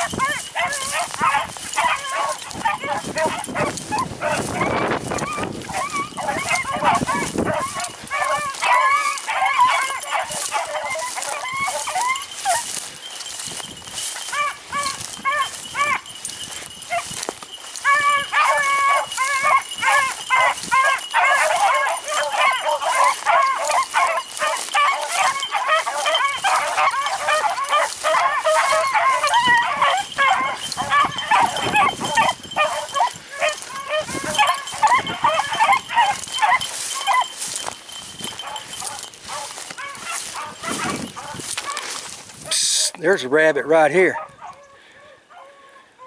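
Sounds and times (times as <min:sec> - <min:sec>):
dogs baying: 0:00.0 - 0:46.0.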